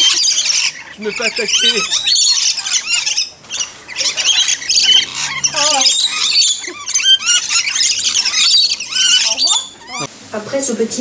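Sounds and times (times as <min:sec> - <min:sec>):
lorikeets chirping and squawking: 0:00.0 - 0:10.1.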